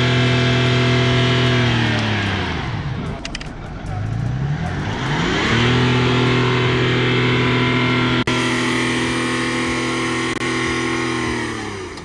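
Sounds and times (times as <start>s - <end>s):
car engine revving high: 0.0s - 3.1s, 3.9s - 12.0s.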